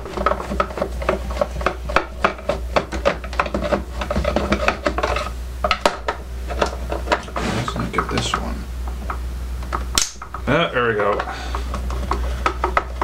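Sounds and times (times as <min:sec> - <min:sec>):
metal scraping on plastic: 0:00.0 - 0:13.0.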